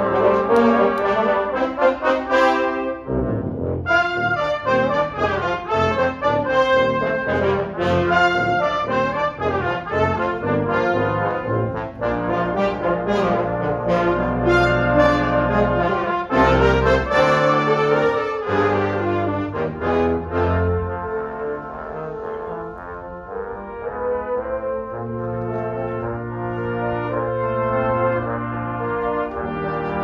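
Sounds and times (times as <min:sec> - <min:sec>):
brass ensemble playing: 0:00.0 - 0:30.0.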